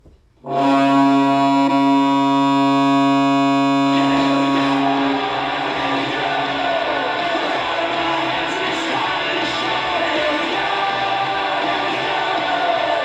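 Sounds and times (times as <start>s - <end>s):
goal horn chord: 0.4s - 13.0s
music: 0.4s - 13.0s.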